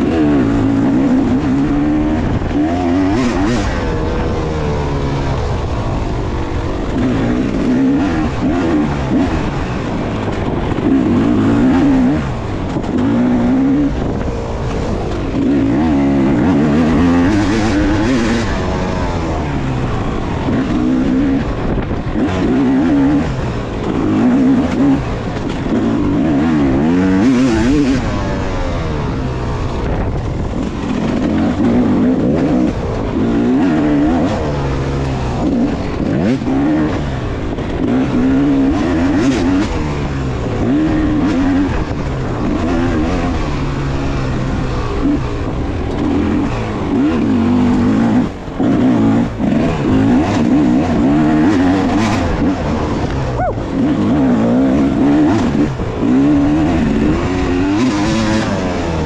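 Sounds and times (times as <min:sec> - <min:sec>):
two-stroke dirt bike engine revving: 0:00.0 - 0:59.0.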